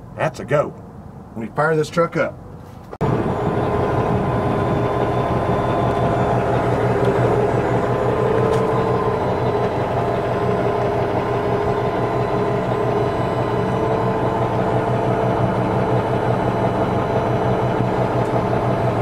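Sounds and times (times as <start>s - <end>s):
diesel truck engine idling: 2.4s - 19.0s.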